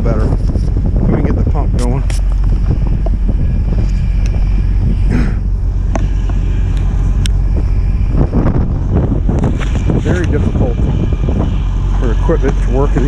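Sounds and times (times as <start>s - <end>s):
truck engine and pump rumbling: 0.0s - 13.0s
wind buffeting microphone: 0.0s - 13.0s.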